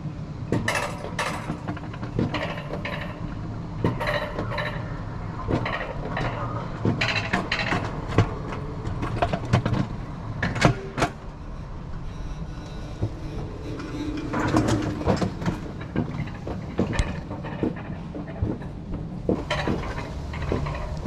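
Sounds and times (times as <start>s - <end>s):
coaster cart rattling on rails: 0.0s - 21.0s.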